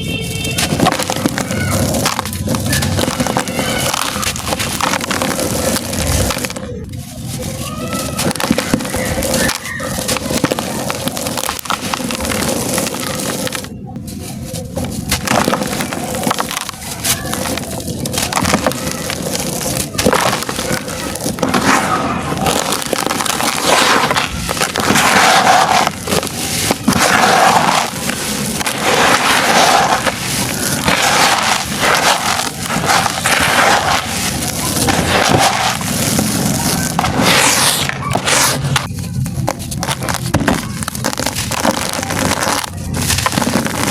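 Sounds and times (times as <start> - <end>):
gritty crunching of crushed cement: 0.0 - 43.9.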